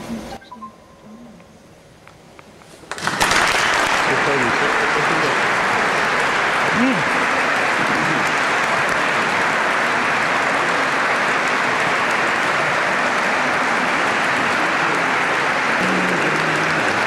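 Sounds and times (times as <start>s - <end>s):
audience applauding: 2.9s - 17.0s.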